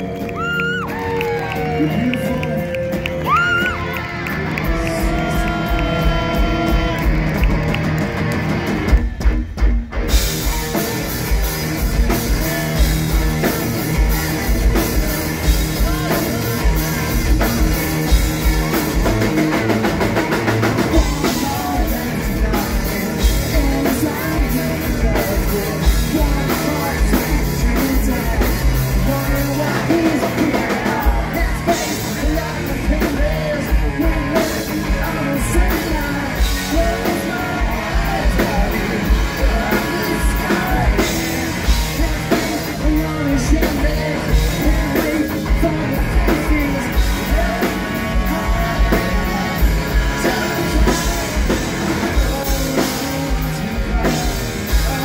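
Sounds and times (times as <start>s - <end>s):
loud rock music with singing: 0.0s - 55.0s.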